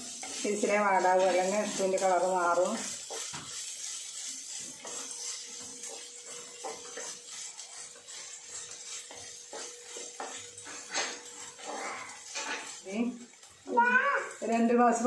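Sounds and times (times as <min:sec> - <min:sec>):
wooden spatula scraping clay pot: 0:00.0 - 0:13.5.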